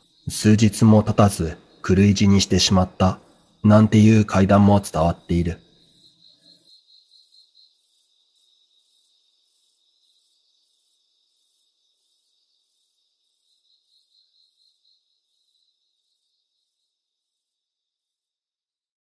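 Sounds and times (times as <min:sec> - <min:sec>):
cricket chirping: 0:00.0 - 0:18.4.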